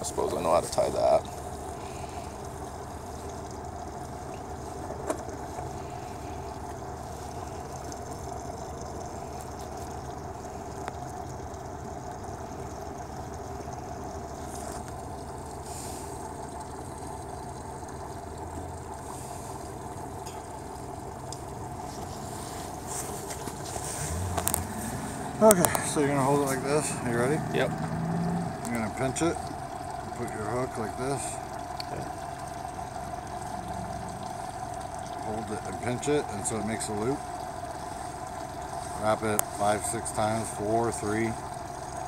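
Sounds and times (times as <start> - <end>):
steady mechanical hum: 0.0 - 42.0.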